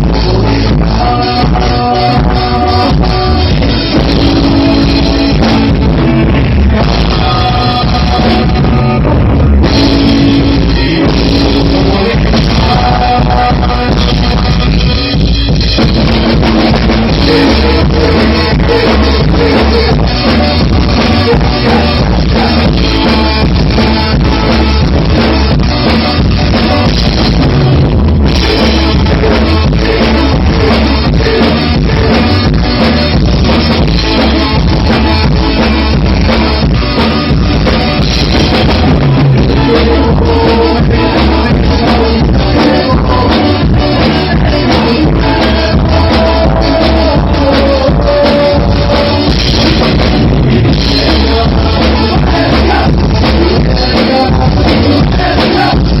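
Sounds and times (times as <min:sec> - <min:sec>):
drum kit beat: 0:00.0 - 0:56.0
person singing: 0:00.0 - 0:56.0
ska band playing: 0:00.0 - 0:56.0.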